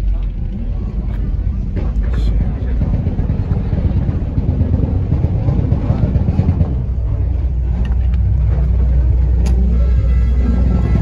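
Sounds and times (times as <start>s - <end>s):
car engine exhaust rumble: 0.0s - 11.0s.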